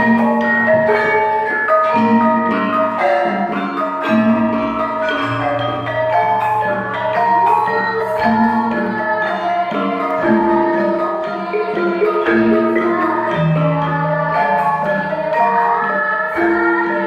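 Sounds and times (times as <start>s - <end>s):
metallophones ringing melody: 0.0s - 17.0s.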